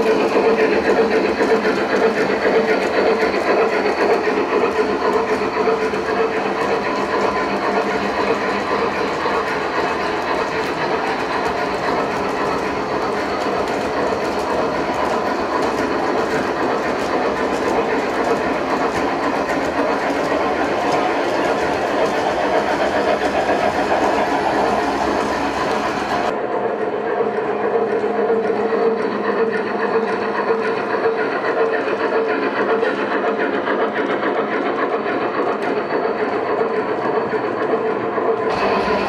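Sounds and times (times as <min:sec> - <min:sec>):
wheels clicking over rail joints: 0:00.0 - 0:26.4, 0:27.8 - 0:39.0
model train rolling: 0:00.0 - 0:39.0.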